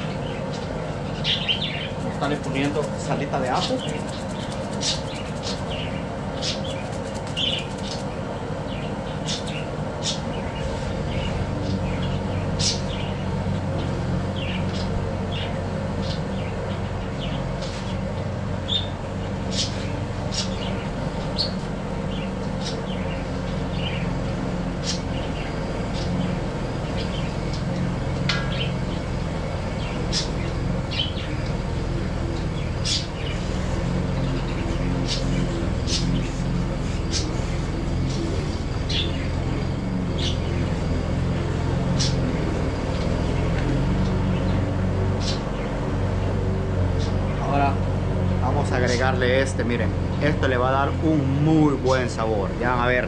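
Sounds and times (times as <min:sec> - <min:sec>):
small birds chirping: 0:00.0 - 0:53.0
steady low hum: 0:00.0 - 0:53.0.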